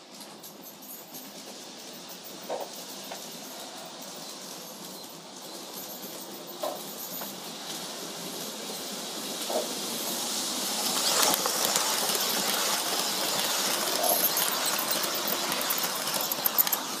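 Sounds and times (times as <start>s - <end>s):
model train clattering: 0.2s - 17.0s.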